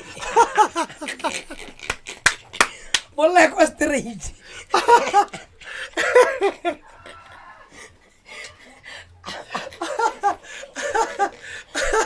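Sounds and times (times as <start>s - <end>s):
men laughing: 0.0s - 3.0s, 4.4s - 12.0s.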